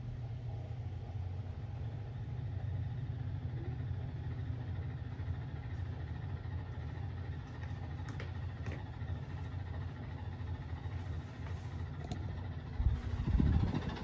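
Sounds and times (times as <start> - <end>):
washing machine rumbling: 0.0 - 14.0.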